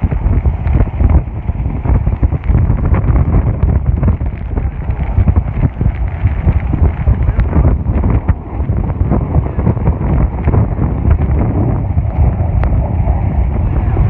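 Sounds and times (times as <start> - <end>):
crackles: 0.0 - 14.0
wind buffeting microphone: 0.0 - 14.0.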